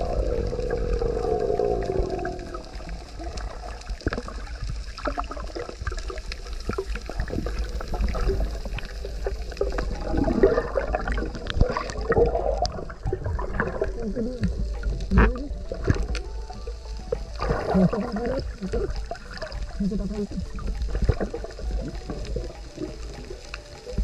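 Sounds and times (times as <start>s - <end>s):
steady low rumble: 0.0s - 23.6s
bubbles gurgling underwater: 0.0s - 24.0s.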